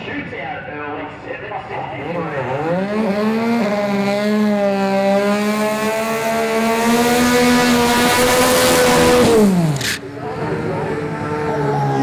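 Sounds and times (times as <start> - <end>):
car engine at high revs: 1.9 - 12.0.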